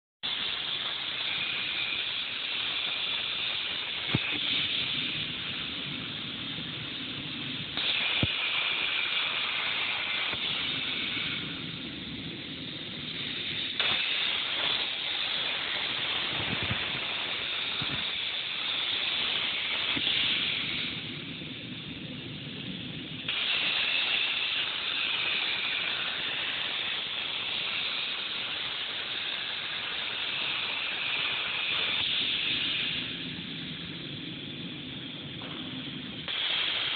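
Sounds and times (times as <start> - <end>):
plasma cutter hissing: 0.2 - 36.9.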